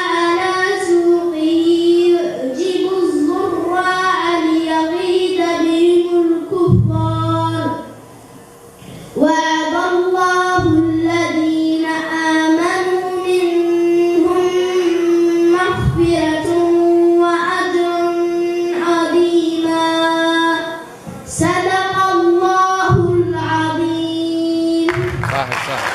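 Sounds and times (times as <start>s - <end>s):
boy chanting recitation: 0.0s - 8.1s, 8.9s - 25.9s.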